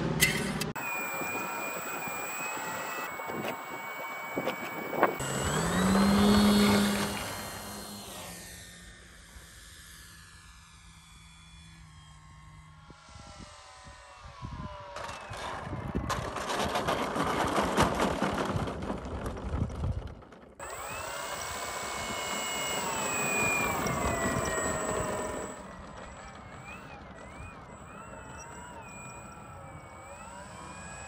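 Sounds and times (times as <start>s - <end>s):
model plane electric motor whining: 0.2s - 19.8s, 20.6s - 31.0s.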